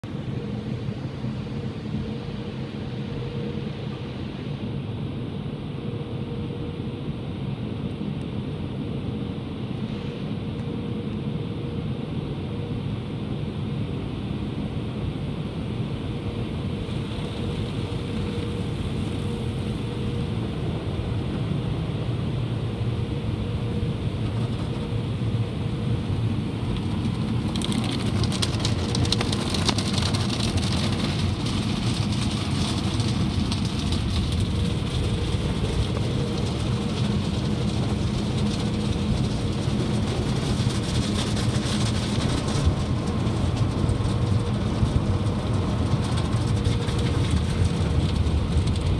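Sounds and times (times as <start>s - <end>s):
car wash machinery rumble: 0.0s - 48.9s.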